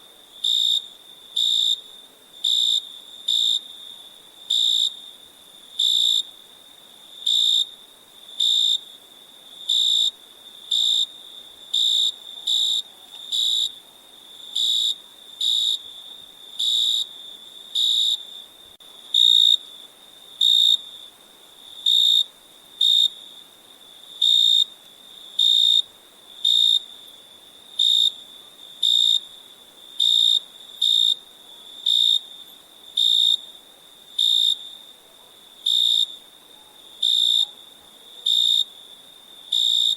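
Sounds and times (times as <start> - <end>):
faint cricket trill: 0.0 - 39.9
loud cricket chirps: 0.1 - 39.9.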